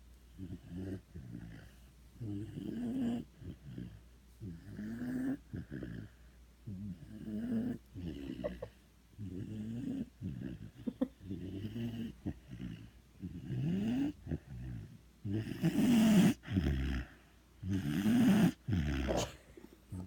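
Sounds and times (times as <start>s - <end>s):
dog snoring: 0.3s - 20.0s.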